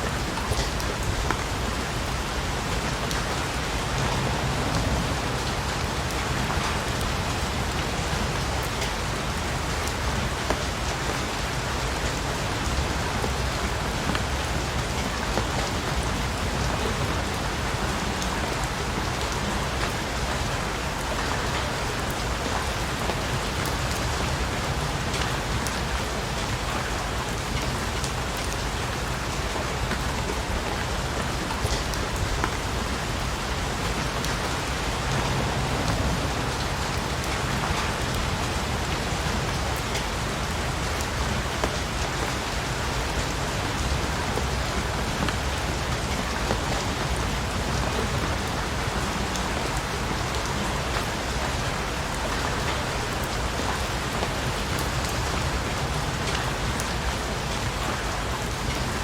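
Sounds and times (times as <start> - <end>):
rain hissing on surfaces: 0.0 - 59.0.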